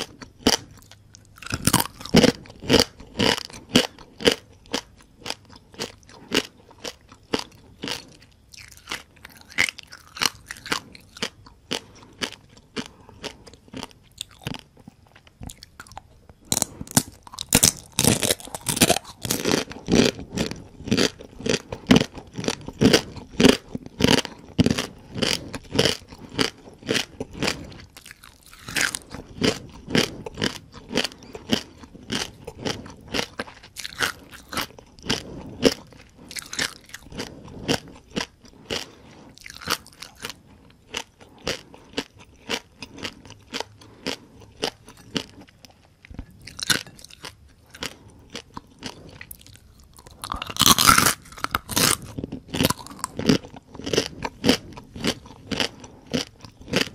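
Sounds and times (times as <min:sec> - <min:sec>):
crunching fried crabs: 0:00.0 - 0:56.9.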